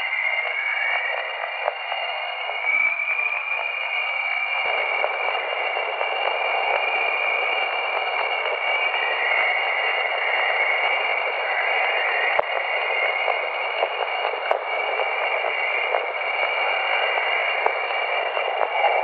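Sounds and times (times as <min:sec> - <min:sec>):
faint crackles: 0:00.0 - 0:19.0
high steady tones: 0:00.0 - 0:19.0
radio static hiss: 0:00.0 - 0:19.0.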